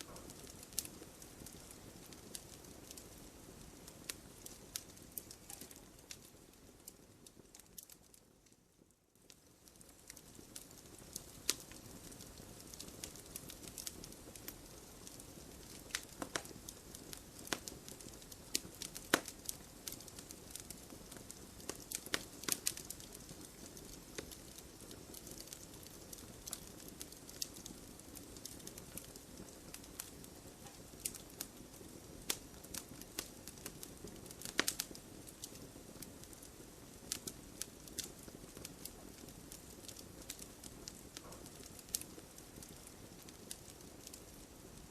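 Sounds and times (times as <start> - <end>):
campfire crackling and hissing: 0.0 - 44.9.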